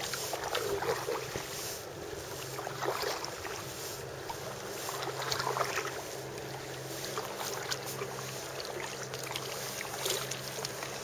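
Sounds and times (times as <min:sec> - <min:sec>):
kayak paddle splashing water: 0:00.0 - 0:11.0.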